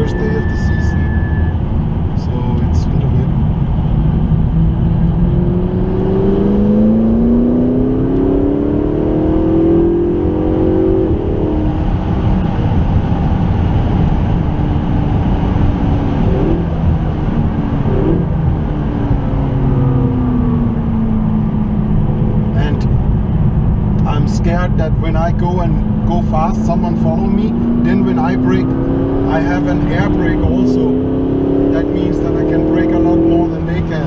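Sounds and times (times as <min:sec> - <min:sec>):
car engine accelerating: 0:00.0 - 0:34.0
road and wind noise: 0:00.0 - 0:34.0.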